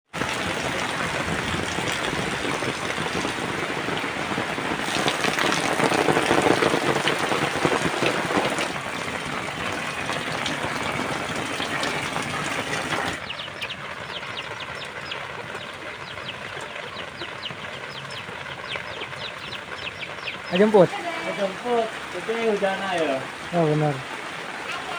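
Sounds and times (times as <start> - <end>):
heavy rain falling: 0.1 - 24.9.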